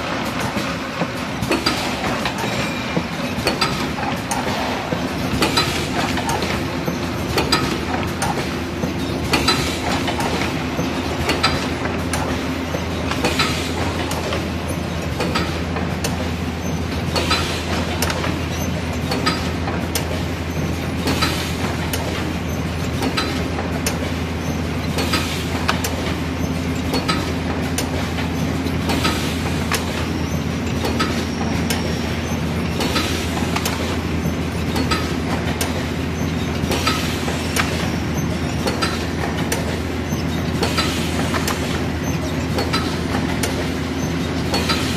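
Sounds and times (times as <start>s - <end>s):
sharp machine clacks: 0.0s - 44.9s.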